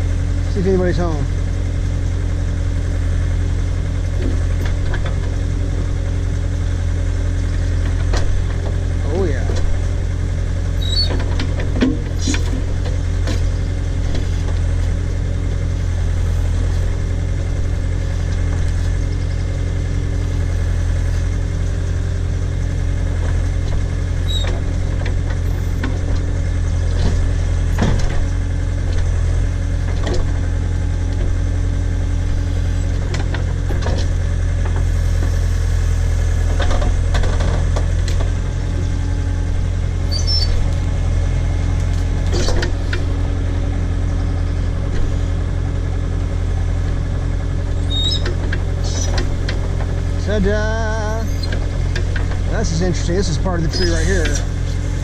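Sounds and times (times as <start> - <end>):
backhoe engine running: 0.0 - 55.0.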